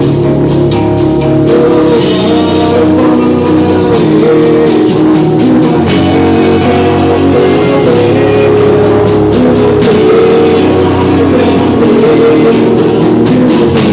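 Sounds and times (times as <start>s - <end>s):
drum kit and cymbal hits: 0.0s - 13.9s
electric guitar held notes: 0.0s - 13.9s.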